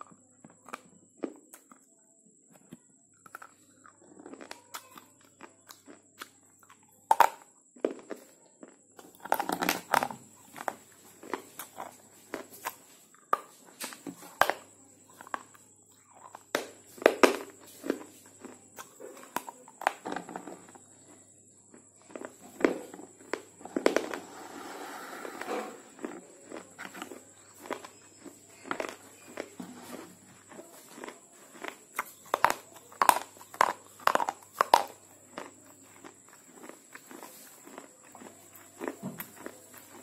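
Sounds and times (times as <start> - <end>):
quiet chewing: 0.0 - 40.0.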